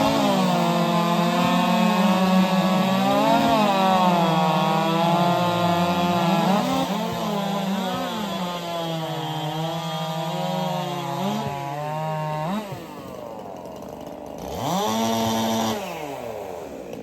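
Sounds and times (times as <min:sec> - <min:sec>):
chainsaws cutting log: 0:00.0 - 0:17.0.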